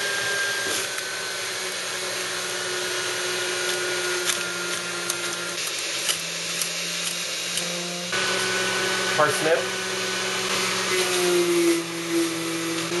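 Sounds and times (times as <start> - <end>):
juicer motor running: 0.0 - 13.0.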